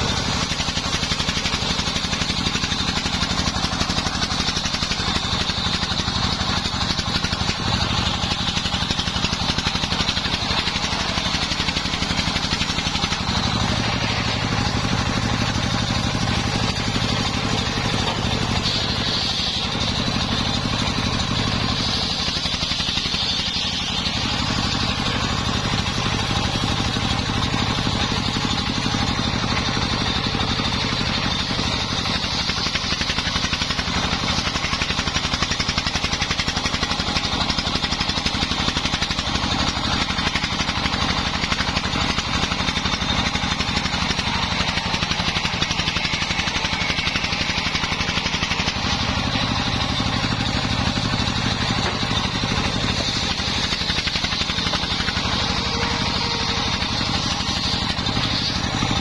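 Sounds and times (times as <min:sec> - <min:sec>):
engine drone: 0:00.0 - 0:59.0
saw blade whining through wood: 0:00.0 - 0:59.0.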